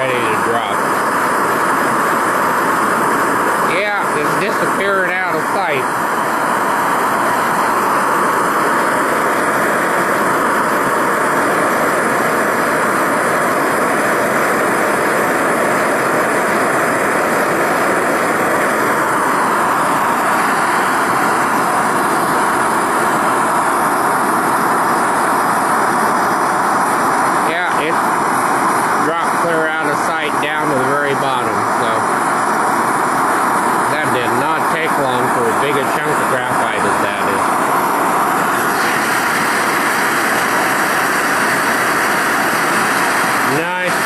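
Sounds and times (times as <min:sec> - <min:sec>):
faint hum: 0:00.0 - 0:44.0
hand torch flame rushing: 0:00.0 - 0:44.0.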